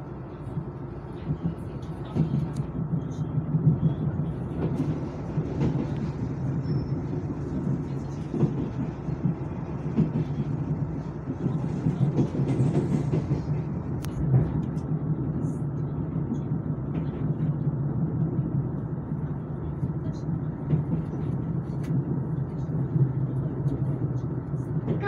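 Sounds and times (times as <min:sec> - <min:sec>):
low rumble of wheels on rail: 0:00.0 - 0:25.0.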